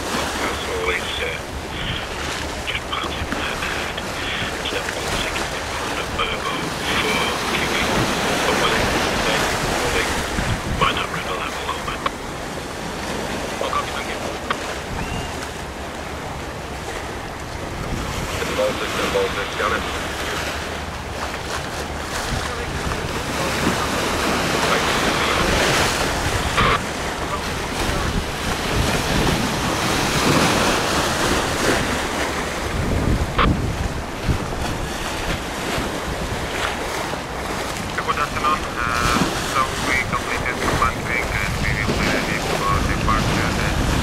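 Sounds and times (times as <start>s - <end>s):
choppy river water rushing: 0.0s - 44.0s
small waves washing: 0.0s - 44.0s
wind on microphone: 1.3s - 13.5s, 14.5s - 19.0s, 19.7s - 44.0s.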